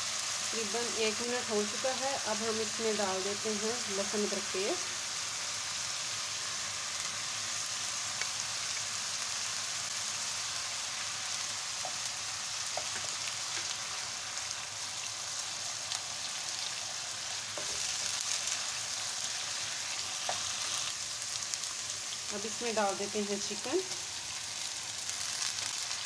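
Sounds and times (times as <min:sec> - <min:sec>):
hot oil sizzling in a wok: 0:00.0 - 0:26.0.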